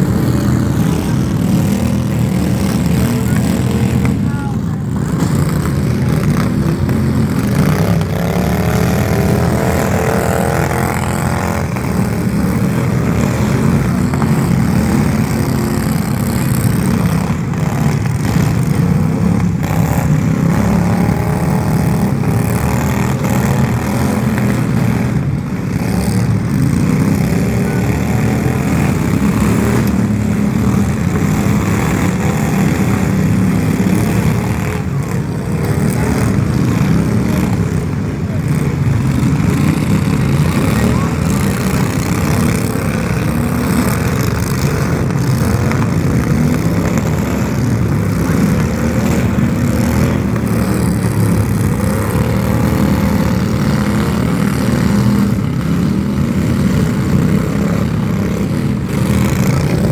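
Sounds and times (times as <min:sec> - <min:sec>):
combustion engine revving: 0:00.0 - 0:59.9.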